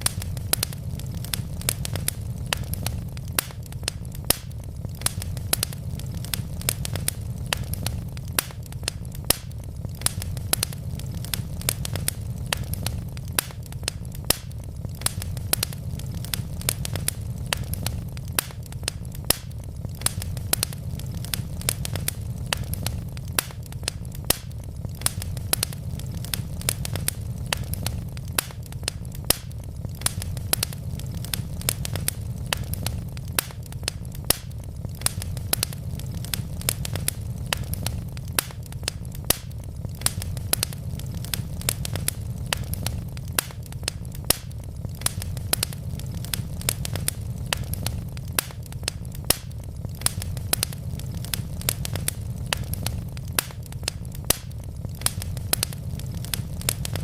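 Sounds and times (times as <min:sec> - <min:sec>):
fire rumbling in a fireplace: 0:00.0 - 0:57.0
logs crackling and popping: 0:00.0 - 0:57.0.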